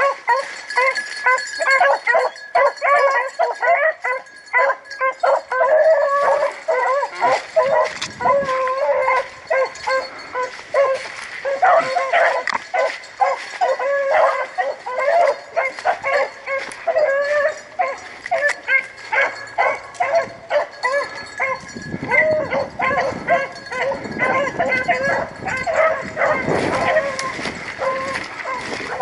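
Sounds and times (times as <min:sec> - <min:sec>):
dogs baying: 0:00.0 - 0:29.0.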